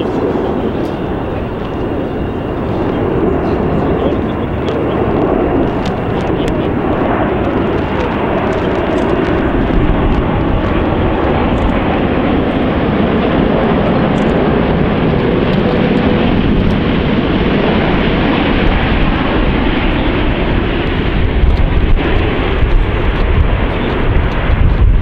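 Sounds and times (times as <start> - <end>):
jet airliner rumbling overhead: 0.0 - 25.0.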